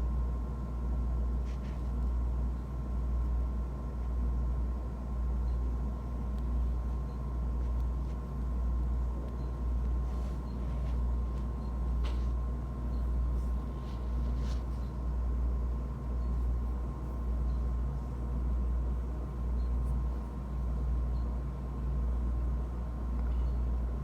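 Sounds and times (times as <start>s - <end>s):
thin steady whine: 0.0s - 24.0s.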